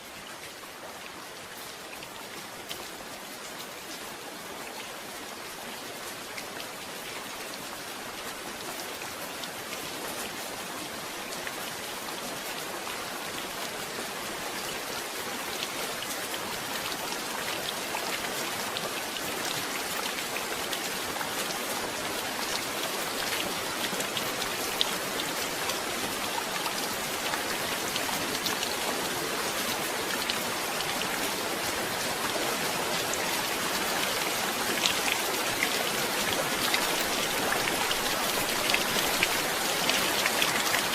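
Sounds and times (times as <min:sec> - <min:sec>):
rain drops ticking on a surface: 0:00.0 - 0:40.9.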